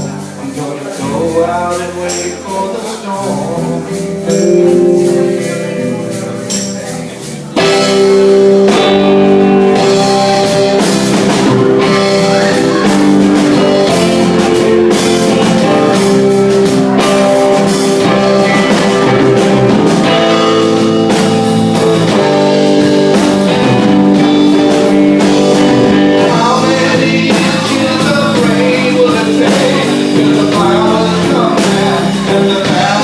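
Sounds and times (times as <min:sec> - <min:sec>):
electric guitar lead: 0:00.0 - 0:33.0
live band playing: 0:00.0 - 0:33.0.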